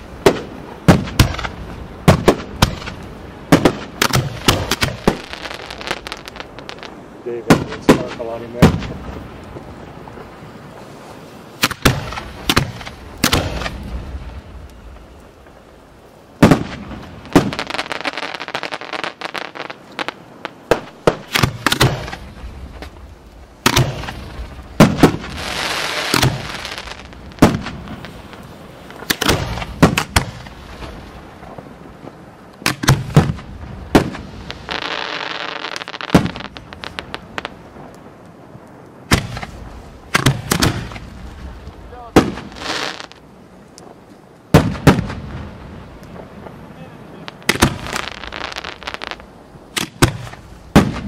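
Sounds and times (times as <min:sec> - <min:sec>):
fireworks hiss: 0:00.0 - 0:43.2, 0:44.5 - 0:51.0
fireworks bangs: 0:00.0 - 0:51.0.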